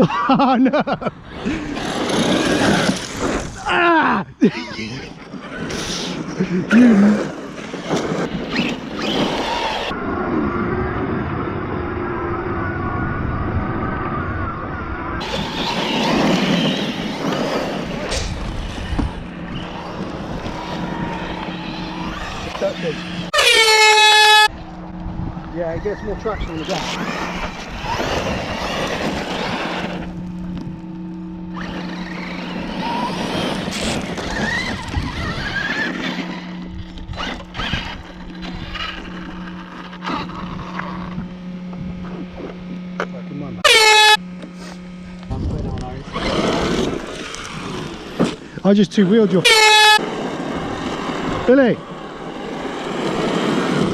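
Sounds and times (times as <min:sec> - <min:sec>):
electric motor whine: 0:01.1 - 0:03.7, 0:04.7 - 0:53.9
tyres on gravel: 0:01.2 - 0:03.8, 0:04.6 - 0:10.0, 0:15.2 - 0:53.9.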